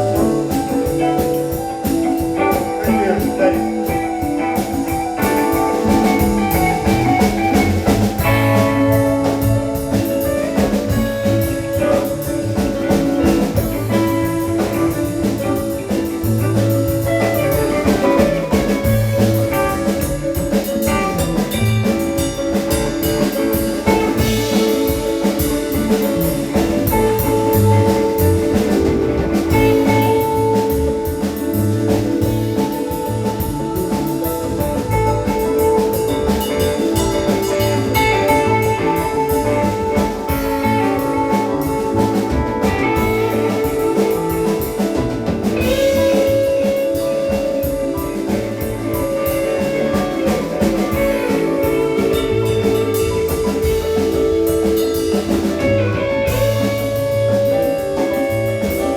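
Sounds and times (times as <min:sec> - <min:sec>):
bass guitar: 0:00.0 - 0:58.9
drum kit: 0:00.0 - 0:58.9
electric guitar: 0:00.0 - 0:58.9.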